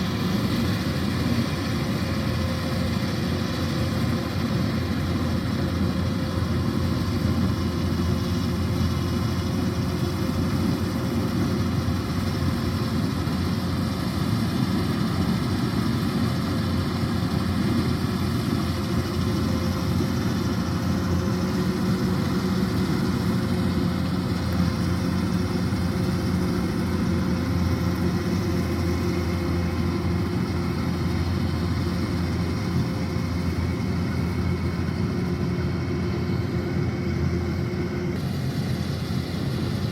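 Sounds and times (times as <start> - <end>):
diesel engine running: 0.0 - 39.9
machinery drone: 0.0 - 39.9.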